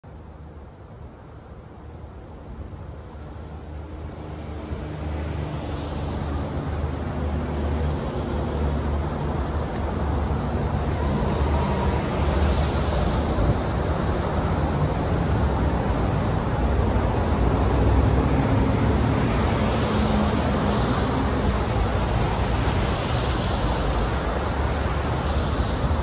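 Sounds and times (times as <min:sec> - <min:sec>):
train rumbling: 0:03.4 - 0:26.0.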